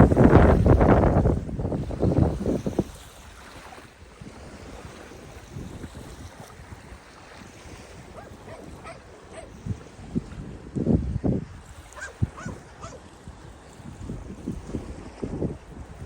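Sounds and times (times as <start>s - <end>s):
light breeze: 0.0s - 16.0s
small waves washing onto beach: 0.0s - 16.0s.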